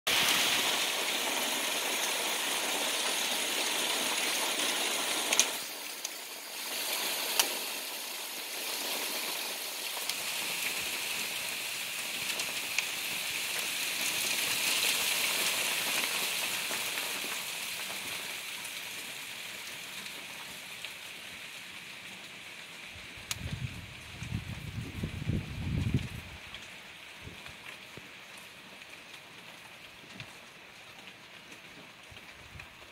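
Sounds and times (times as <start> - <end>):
sharp ticks of hail impacts: 0.1 - 24.7, 25.8 - 32.9
hail falling: 0.1 - 32.9.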